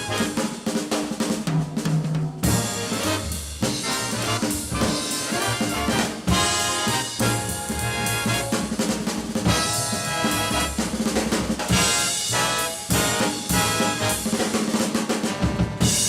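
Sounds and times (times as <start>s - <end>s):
brass section playing chords: 0.0s - 0.6s, 2.4s - 14.6s, 15.2s - 16.0s
drum kit: 0.0s - 16.0s.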